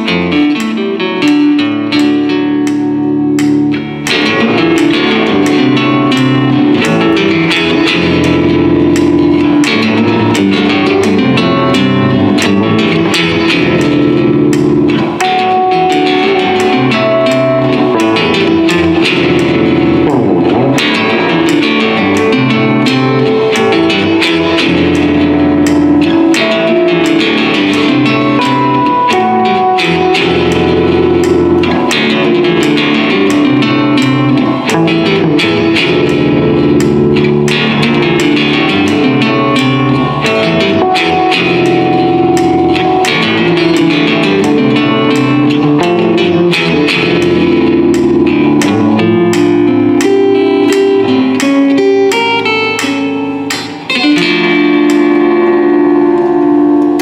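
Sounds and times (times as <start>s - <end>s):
guitar playing: 0.0s - 57.0s.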